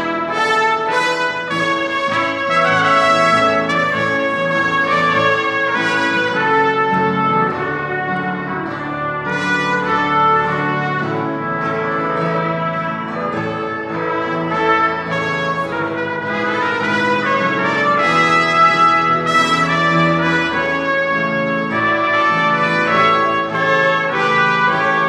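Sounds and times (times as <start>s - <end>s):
brass horn playing: 0.0s - 25.0s
piano accompaniment: 0.0s - 25.0s
trumpet playing held notes: 0.0s - 25.0s.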